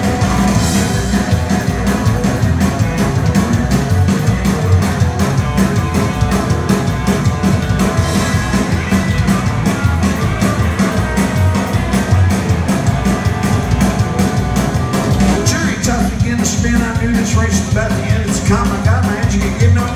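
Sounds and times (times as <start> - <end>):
drum kit: 0.0 - 19.9
electric guitar: 0.0 - 19.9
upright bass: 0.0 - 19.9.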